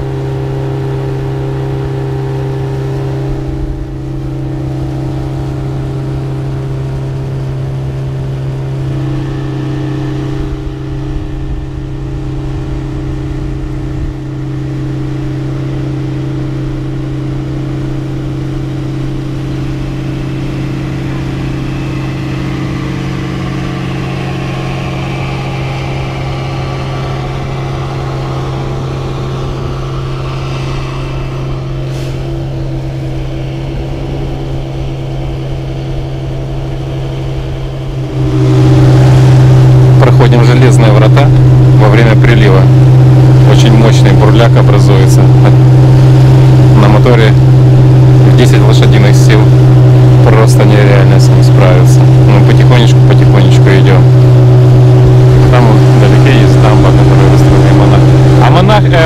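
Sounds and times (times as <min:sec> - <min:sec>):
outboard motor drone: 0:00.0 - 0:59.0
water rushing along hull: 0:00.0 - 0:59.0.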